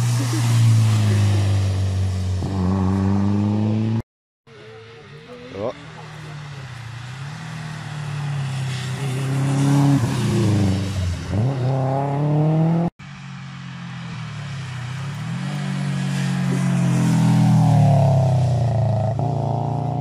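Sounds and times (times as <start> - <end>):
rally car engine at full throttle: 0.0 - 13.4, 14.1 - 20.0.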